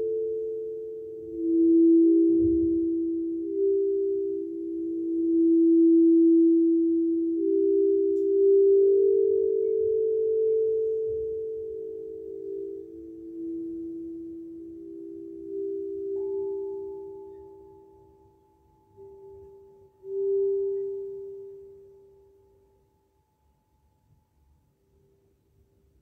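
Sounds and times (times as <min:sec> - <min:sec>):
higher ringing tone: 0:00.0 - 0:22.8.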